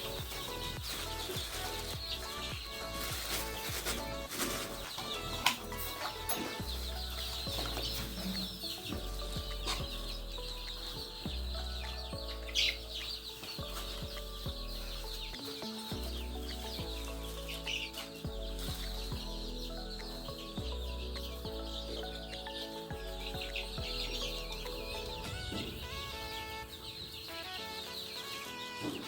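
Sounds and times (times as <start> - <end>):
background music with held chords: 0.0 - 29.0
chickens clucking and chirping: 0.0 - 29.0.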